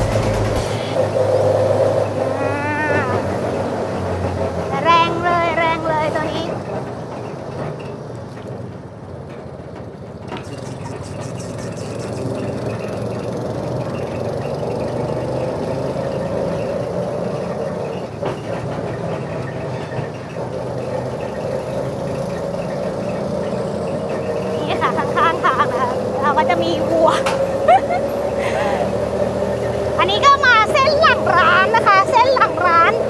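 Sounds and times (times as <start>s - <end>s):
vehicle running hum and whine: 0.0s - 33.0s.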